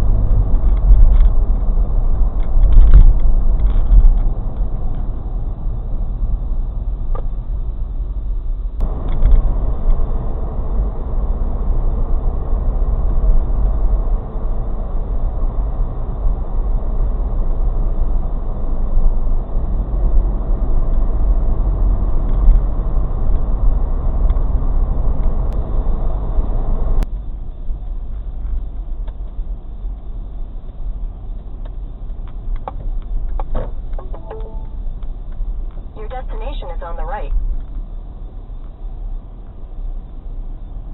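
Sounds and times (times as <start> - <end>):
car cabin road and engine rumble: 0.0 - 40.9.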